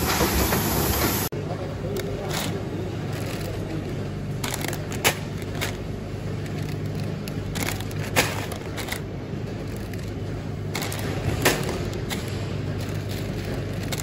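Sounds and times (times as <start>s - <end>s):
low machine hum: 0.0s - 14.0s
plastic bag crinkling: 2.0s - 14.0s.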